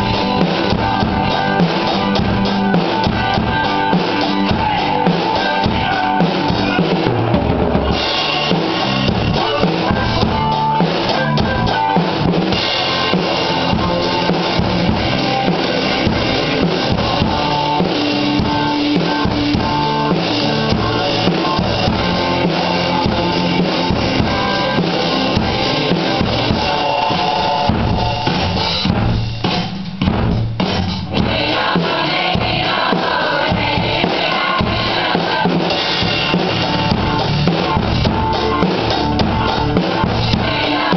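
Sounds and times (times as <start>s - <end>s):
drum kit playing rock beat: 0.0s - 40.9s
recorded rock song: 0.0s - 40.9s.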